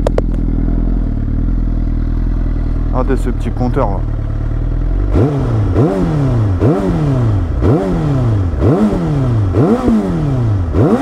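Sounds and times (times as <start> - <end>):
motorcycle engine idling: 0.0 - 11.0
motorcycle engine revving: 0.0 - 11.0.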